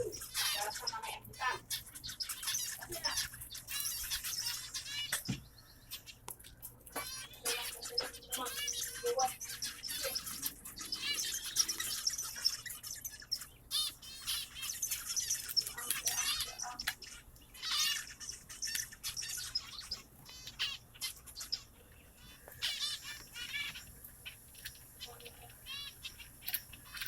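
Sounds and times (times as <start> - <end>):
flock of small birds chirping: 0.0 - 27.0.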